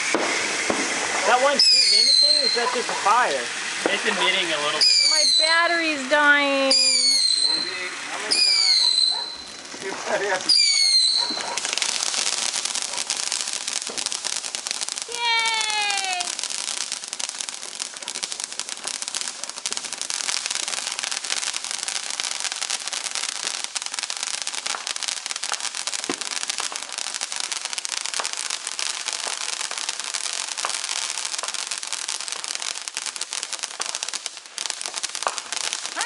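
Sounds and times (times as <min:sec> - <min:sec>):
firework fountain hissing and crackling: 0:00.0 - 0:36.0.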